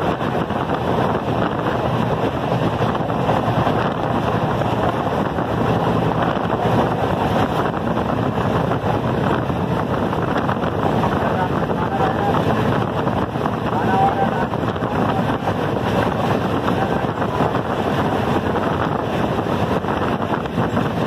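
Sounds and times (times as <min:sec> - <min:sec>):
train wheels on rail: 0:00.0 - 0:21.0
wind against microphone: 0:00.0 - 0:21.0.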